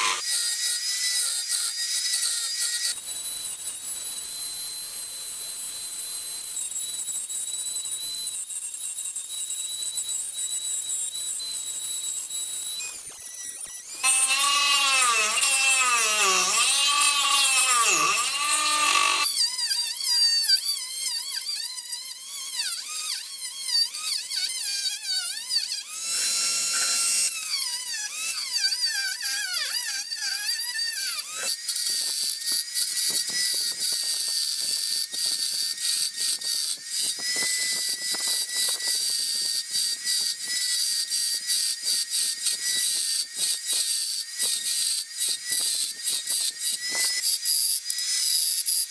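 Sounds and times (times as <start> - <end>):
rotary tool whining and grinding: 0.0 - 48.9.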